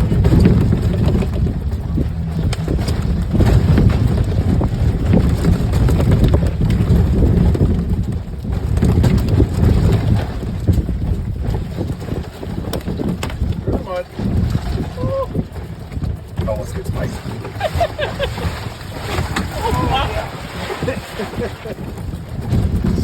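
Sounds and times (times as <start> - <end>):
knocks and rattles: 0.0 - 19.9, 20.6 - 23.0
golf cart rumbling: 0.0 - 23.0
wind buffeting microphone: 0.0 - 23.0.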